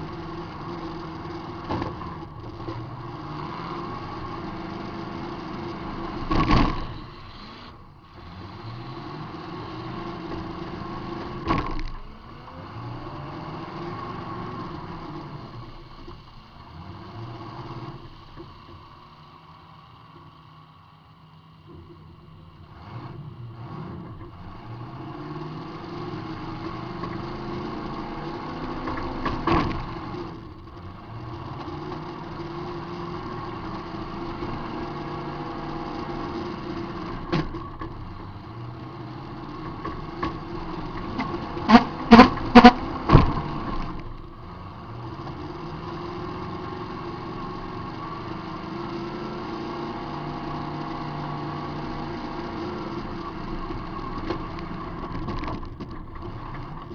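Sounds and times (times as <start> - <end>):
car engine running and revving: 0.0 - 56.9.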